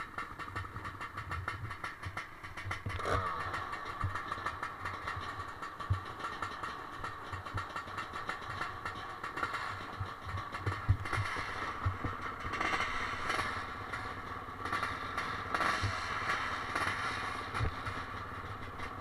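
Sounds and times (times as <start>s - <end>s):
clatter: 0.0s - 19.0s
distant motocross bike engines: 0.0s - 19.0s.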